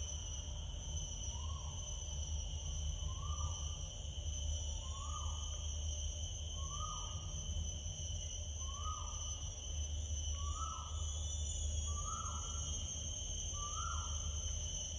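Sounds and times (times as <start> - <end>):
high-pitched insect drone: 0.0 - 14.9.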